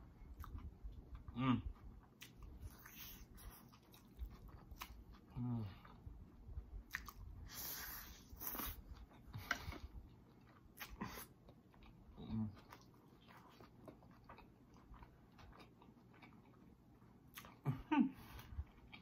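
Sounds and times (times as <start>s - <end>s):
person chewing: 0.2s - 6.1s, 6.8s - 19.0s.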